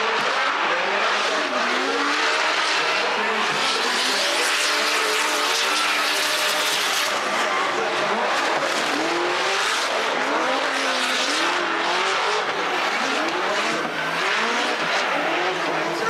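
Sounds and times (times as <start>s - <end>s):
car engines revving hard: 0.0s - 16.0s.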